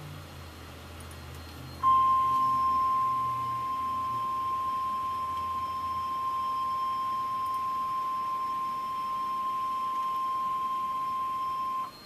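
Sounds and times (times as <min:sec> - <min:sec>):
steady high alarm beep: 0:01.4 - 0:12.0.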